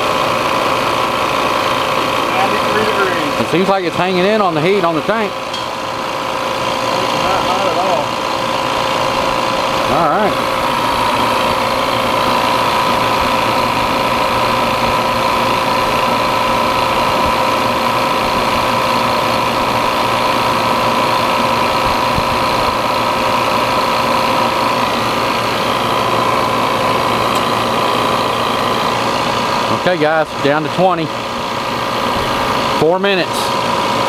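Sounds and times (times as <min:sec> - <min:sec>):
compressor hum and whine: 0:00.0 - 0:34.0.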